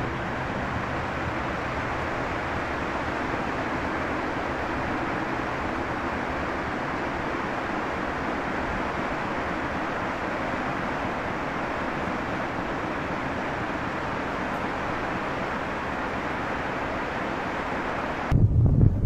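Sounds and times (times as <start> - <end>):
train ploughing through snow: 0.0 - 18.3.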